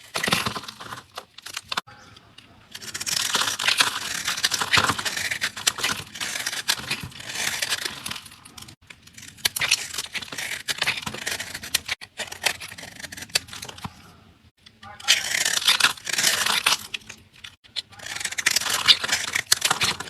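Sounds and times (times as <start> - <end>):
blade crunching through soap: 2.7 - 14.0, 15.0 - 20.0.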